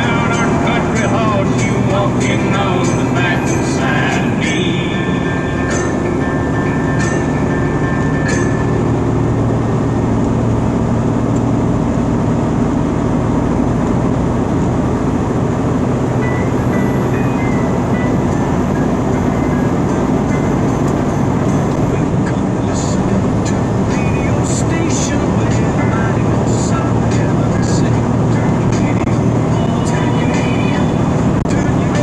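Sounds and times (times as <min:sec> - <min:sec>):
vehicle engine and road drone: 0:00.0 - 0:32.0.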